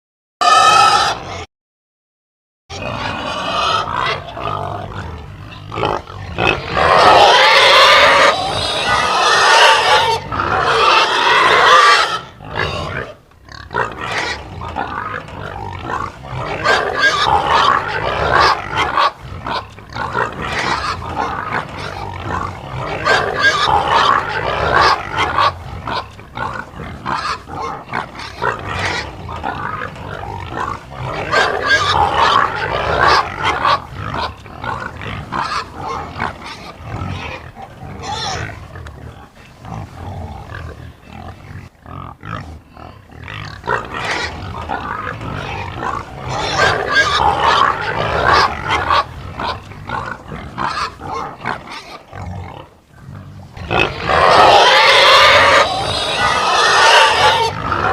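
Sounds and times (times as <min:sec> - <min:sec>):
harsh pig call: 0:00.4 - 0:01.5, 0:02.7 - 0:57.9
pig grunting: 0:00.4 - 0:01.5, 0:02.7 - 0:57.9.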